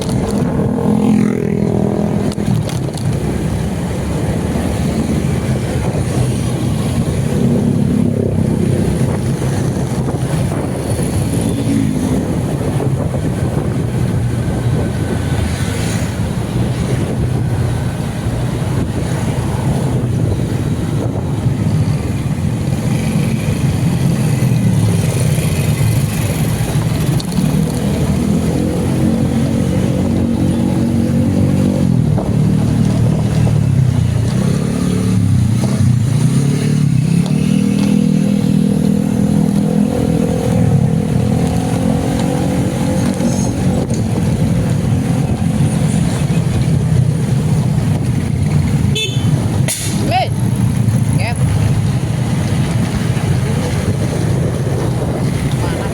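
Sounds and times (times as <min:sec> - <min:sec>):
road rumble: 0:00.0 - 0:55.9
vehicle engine speeding up and slowing: 0:00.0 - 0:55.9.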